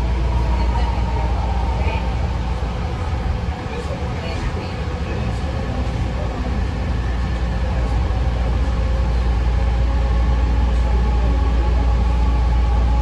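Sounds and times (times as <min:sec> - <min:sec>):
train car low rumble: 0:00.0 - 0:13.0.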